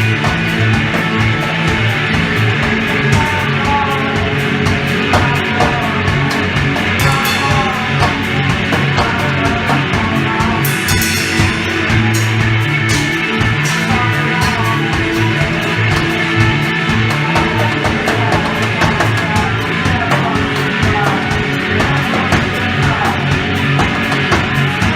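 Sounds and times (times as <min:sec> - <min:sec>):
guitar: 0:00.0 - 0:24.9
rock band playing live: 0:00.0 - 0:24.9.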